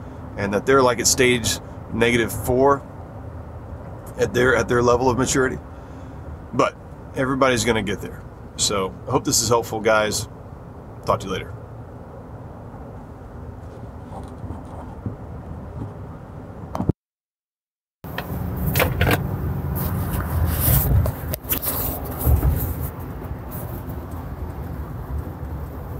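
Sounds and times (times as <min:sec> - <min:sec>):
road rumble inside truck cabin: 0:00.0 - 0:17.0, 0:18.0 - 0:25.9.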